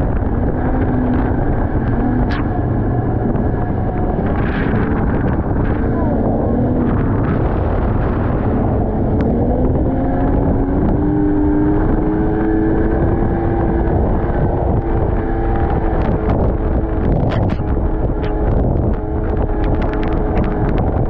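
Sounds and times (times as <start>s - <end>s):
snowmobile engine running: 0.0s - 21.0s
wind buffeting microphone: 0.0s - 21.0s.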